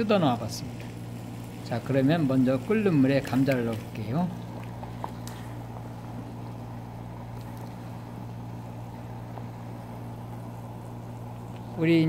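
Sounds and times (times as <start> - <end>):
kitchen equipment hum: 0.0 - 12.0.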